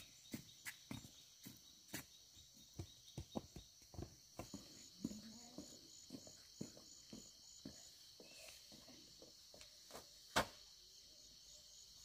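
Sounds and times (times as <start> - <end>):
footsteps on dirt path: 0.0 - 10.1
insects chirring: 0.0 - 12.0.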